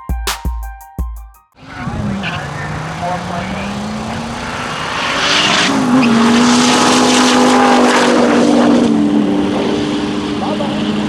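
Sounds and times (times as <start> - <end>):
race car engine passing by: 1.6 - 11.0.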